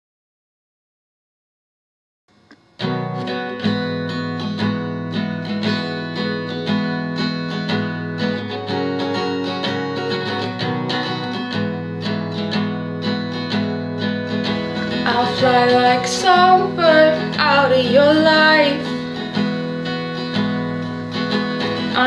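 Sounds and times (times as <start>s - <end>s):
guitar strumming chords: 2.3s - 22.0s.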